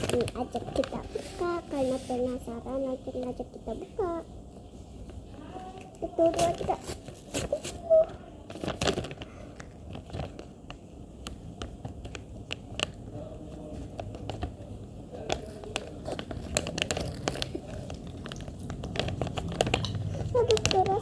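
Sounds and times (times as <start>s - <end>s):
plastic packaging crinkling: 0.0s - 4.1s, 5.4s - 21.0s.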